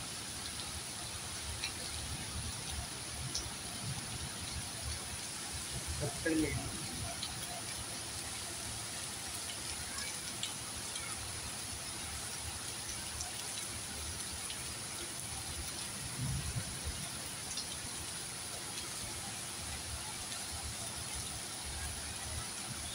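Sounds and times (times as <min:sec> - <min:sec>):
steady rain on foliage: 0:00.0 - 0:22.9.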